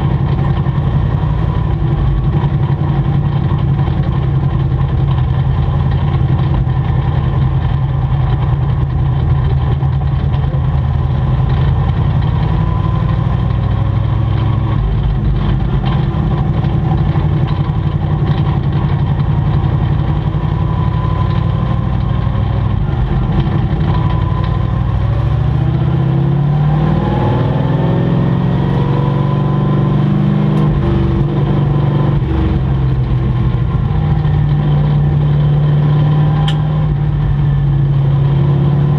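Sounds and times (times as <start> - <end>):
racing truck engines: 0.0 - 38.9.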